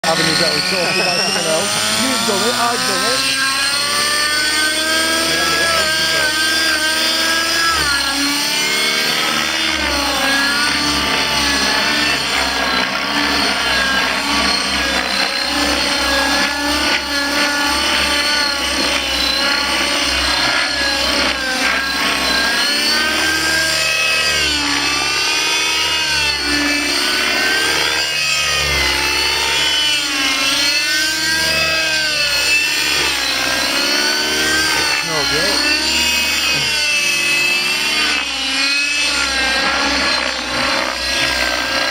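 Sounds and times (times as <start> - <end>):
model helicopter engine running: 0.0 - 41.9.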